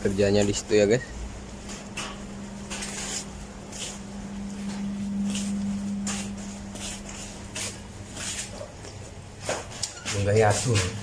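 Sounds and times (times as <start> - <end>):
steady low hum: 0.0 - 9.9
footsteps scuffing: 1.7 - 11.0.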